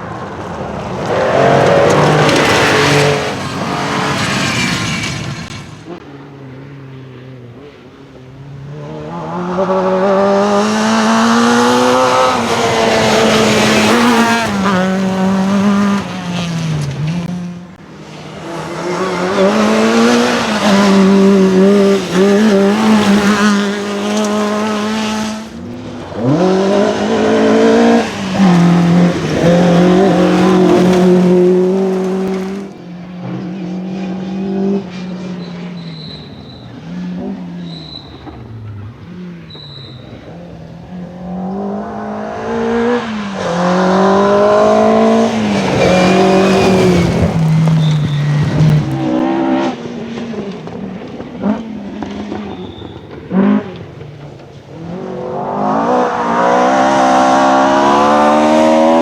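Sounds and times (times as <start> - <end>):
rally car engine at high revs: 0.0 - 6.0, 7.1 - 59.0.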